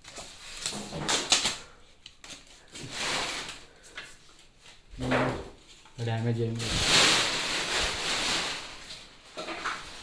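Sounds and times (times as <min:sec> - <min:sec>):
soft rustling of parts: 0:00.0 - 0:10.0.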